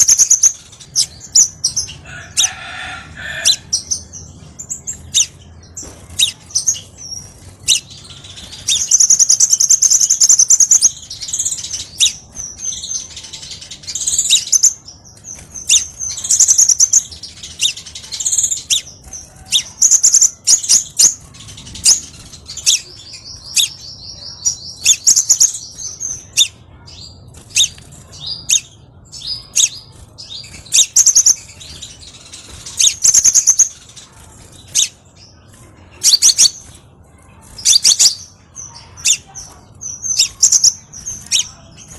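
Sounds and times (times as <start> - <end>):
bird singing rapid chirps: 0.0 - 41.9.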